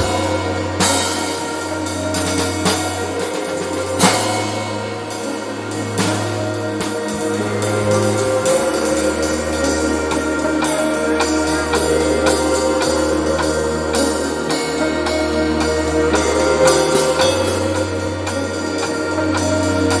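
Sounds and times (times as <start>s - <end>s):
electronic percussion beat: 0.0s - 20.0s
synthesizer bass and chords: 0.0s - 20.0s.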